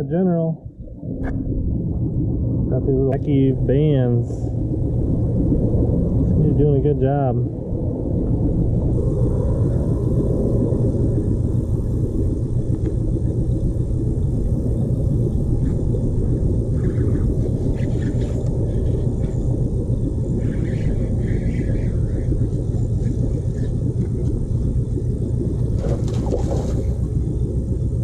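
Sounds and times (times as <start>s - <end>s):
loud low rumble: 0.0s - 28.0s.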